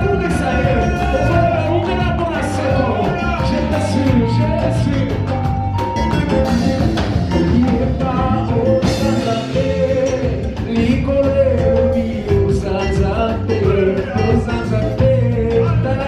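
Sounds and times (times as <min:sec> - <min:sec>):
bass: 0:00.0 - 0:16.0
drum beat: 0:00.0 - 0:16.0
gospel band playing: 0:00.0 - 0:16.0
voices singing: 0:00.0 - 0:16.0.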